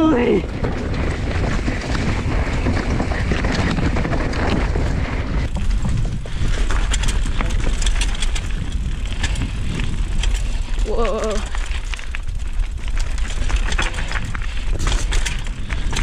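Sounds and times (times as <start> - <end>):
bike chain clicking and rattling: 0.0 - 16.0
bike tyres on dirt and roots: 0.0 - 16.0
wind buffeting microphone: 0.0 - 16.0.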